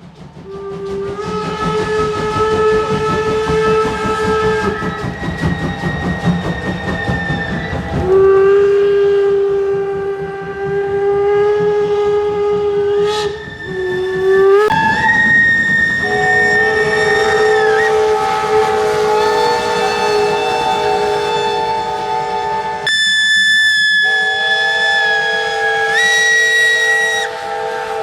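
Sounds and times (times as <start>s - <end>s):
steam locomotive whistles: 0.0s - 28.0s.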